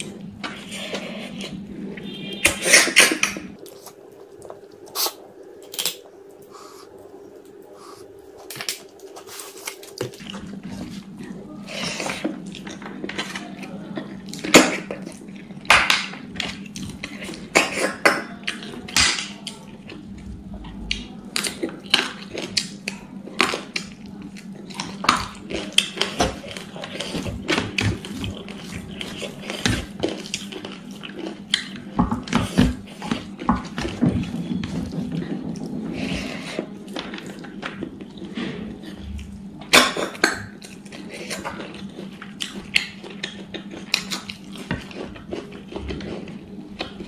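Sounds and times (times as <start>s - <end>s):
chewing: 0.0s - 47.0s
steady low hum: 0.0s - 47.0s.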